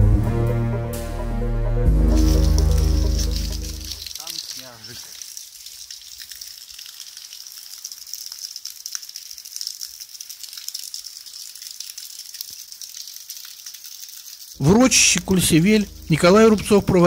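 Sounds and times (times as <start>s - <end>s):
running water gushing: 2.1s - 17.0s.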